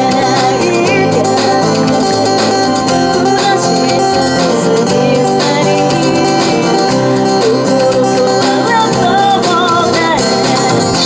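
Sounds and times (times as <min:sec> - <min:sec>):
strummed acoustic guitars: 0:00.0 - 0:11.0
woman singing into microphone: 0:00.0 - 0:11.0.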